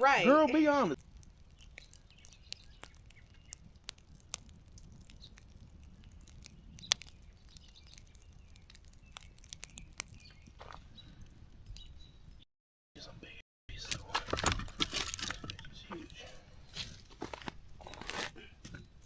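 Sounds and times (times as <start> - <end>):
campfire crackling and popping: 0.0 - 12.4, 13.7 - 19.0.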